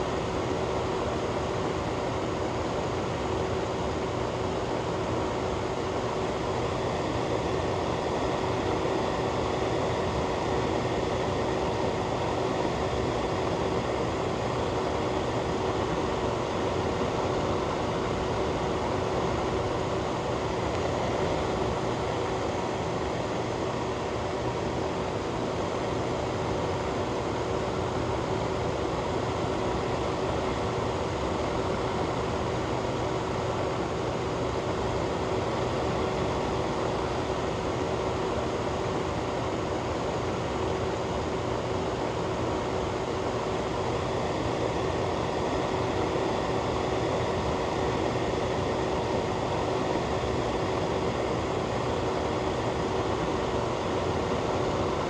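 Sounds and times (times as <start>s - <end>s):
faint constant hum: 0.0s - 55.0s
fan air rushing: 0.0s - 55.0s.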